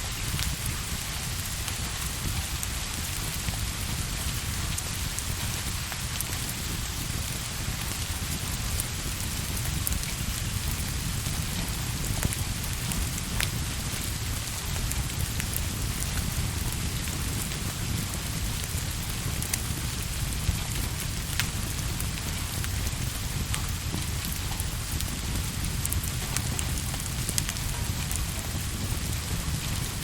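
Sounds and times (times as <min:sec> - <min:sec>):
fireplace crackles: 0:00.0 - 0:30.0
steady rain falling: 0:00.0 - 0:30.0.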